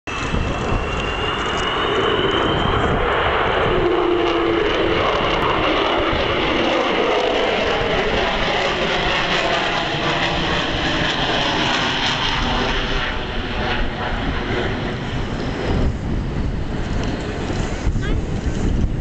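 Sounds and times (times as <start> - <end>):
high whine: 0.1 - 19.0
jet engines howling: 0.1 - 19.0.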